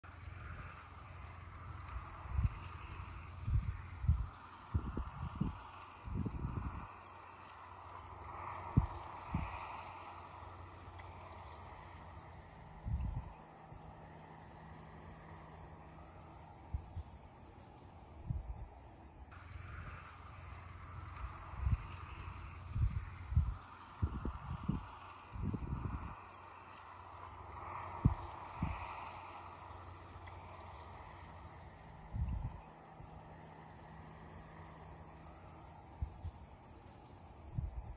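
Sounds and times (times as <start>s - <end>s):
crickets trilling: 0.0s - 37.9s
wind on microphone: 1.6s - 14.0s, 16.4s - 33.3s, 35.7s - 37.9s.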